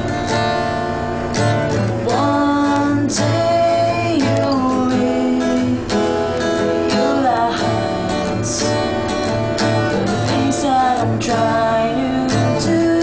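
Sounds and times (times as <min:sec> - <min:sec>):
acoustic guitar ballad: 0:00.0 - 0:13.0.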